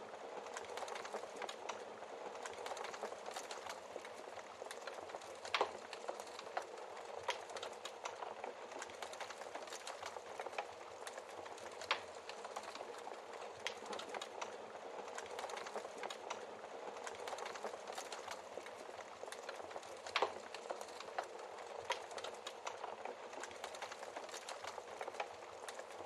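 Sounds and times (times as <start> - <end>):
wood fire crackling: 0.0 - 26.0
burning logs popping: 0.2 - 26.0.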